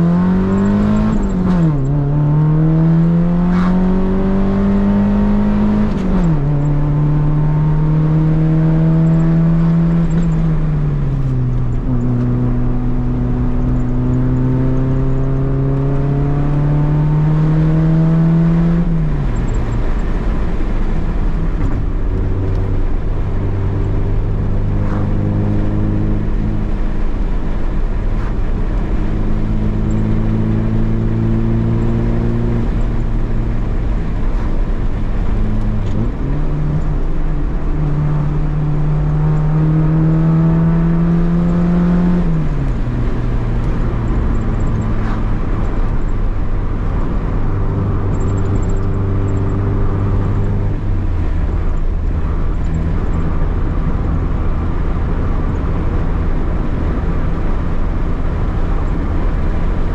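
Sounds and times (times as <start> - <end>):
road noise: 0.0 - 59.9
vehicle engine running: 0.0 - 59.9.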